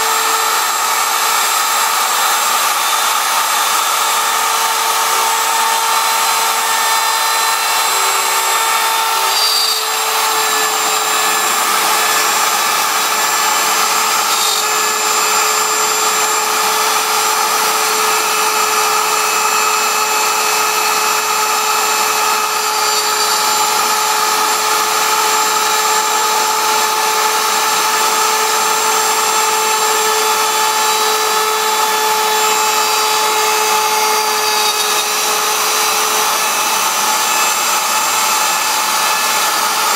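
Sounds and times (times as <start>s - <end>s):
router bit cutting wood: 0.0s - 39.9s
router spindle whining: 0.0s - 39.9s.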